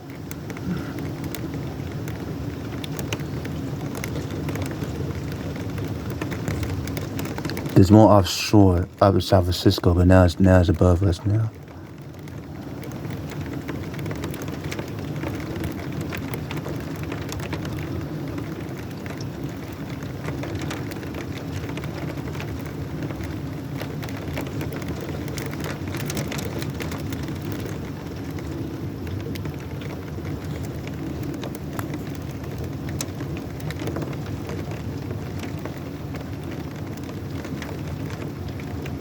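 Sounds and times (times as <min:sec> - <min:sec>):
heavy rain falling: 0:00.0 - 0:39.0
raindrops ticking on hard surfaces: 0:00.0 - 0:39.0.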